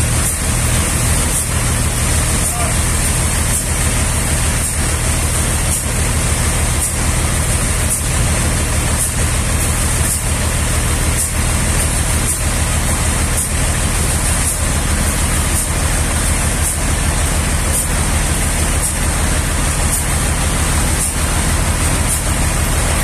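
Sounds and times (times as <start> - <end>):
sawmill machinery pulsing hum: 0.0 - 23.0.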